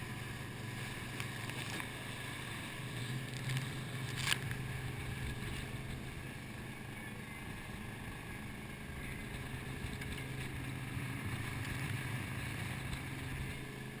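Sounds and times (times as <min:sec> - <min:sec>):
boat engine droning: 0:00.0 - 0:14.0
rushing wind: 0:00.0 - 0:14.0
water noise: 0:00.0 - 0:14.0.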